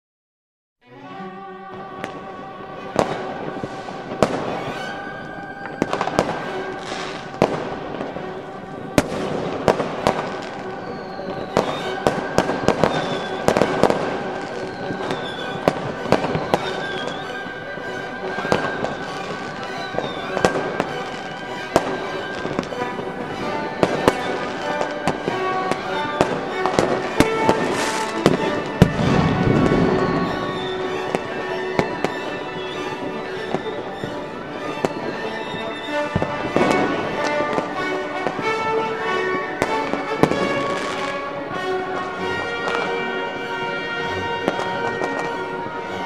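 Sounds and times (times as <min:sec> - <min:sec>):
music with sustained notes: 0:00.8 - 0:46.0
fireworks bangs and crackles: 0:02.9 - 0:45.9.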